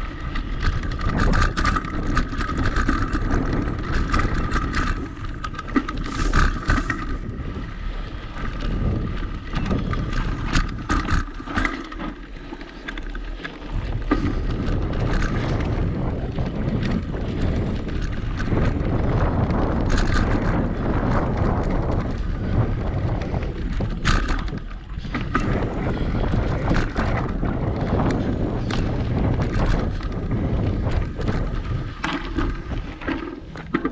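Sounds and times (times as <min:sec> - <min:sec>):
wind noise on microphone: 0:00.0 - 0:12.2, 0:12.9 - 0:33.9
bike knocks and rattles: 0:00.0 - 0:33.9
bike tyres rolling over dirt and rocks: 0:00.0 - 0:33.9.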